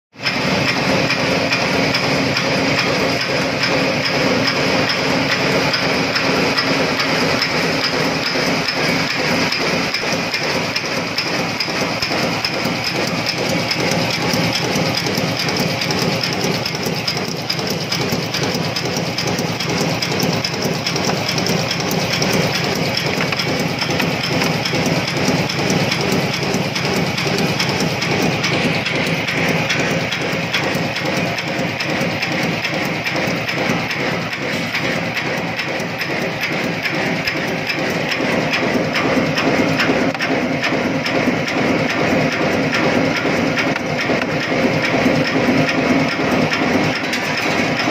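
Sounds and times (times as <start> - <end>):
constant machine hum: 0.2 - 47.9
machine clattering: 0.2 - 47.9.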